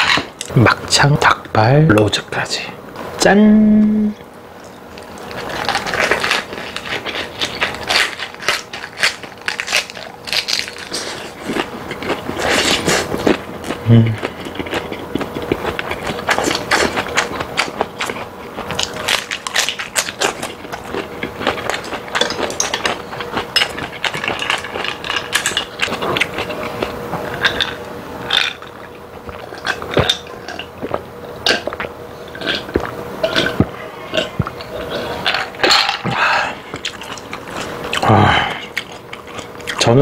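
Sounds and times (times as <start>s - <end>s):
chewing and wet mouth sounds: 4.6s - 40.0s.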